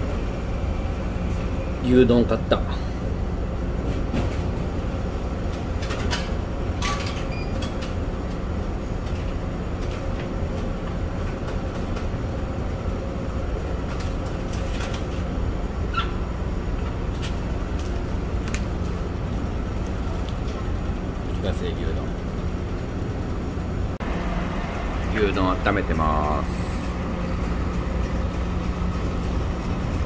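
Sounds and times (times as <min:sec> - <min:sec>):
low drone of ship engines: 0:00.0 - 0:30.0.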